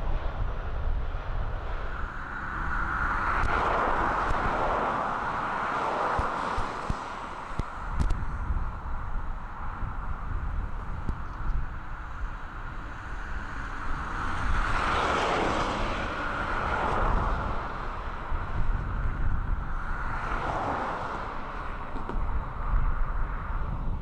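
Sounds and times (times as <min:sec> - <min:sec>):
passing vehicles: 0:00.0 - 0:24.0
wind rumble on microphone: 0:00.0 - 0:24.0.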